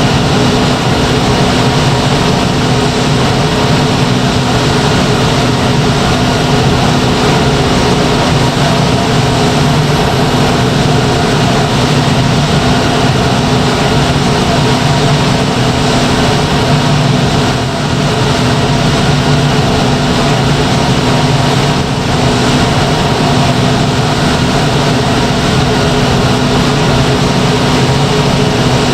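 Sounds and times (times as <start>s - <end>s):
steam turbine running: 0.0s - 28.9s.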